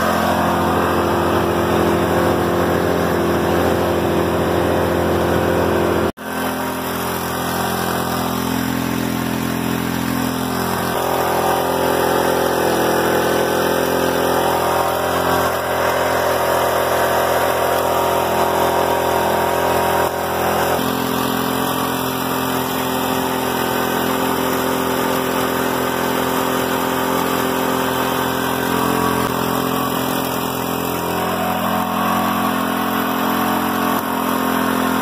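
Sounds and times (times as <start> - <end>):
engine running pump: 0.0 - 35.0.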